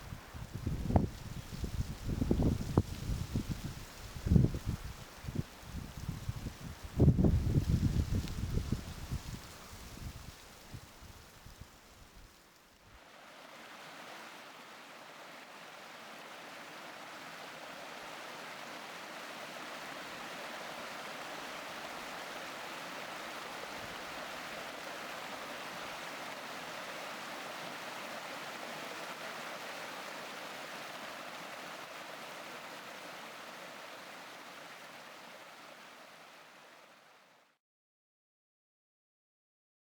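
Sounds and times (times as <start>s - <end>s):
rushing water: 0.0s - 37.5s.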